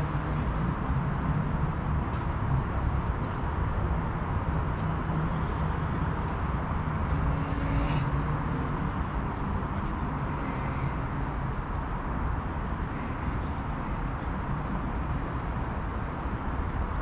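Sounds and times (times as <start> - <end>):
distant traffic hum: 0.0 - 17.0.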